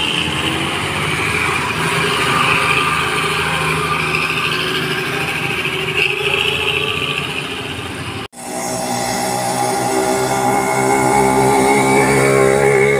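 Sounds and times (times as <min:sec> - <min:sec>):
diesel truck engine droning: 0:00.0 - 0:12.9.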